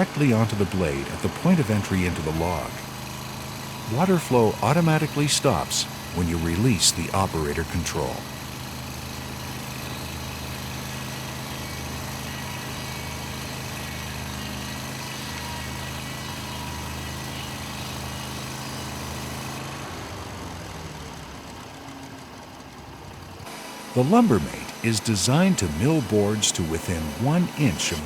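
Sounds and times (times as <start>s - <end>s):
band sawmill engine running: 0.0s - 28.0s.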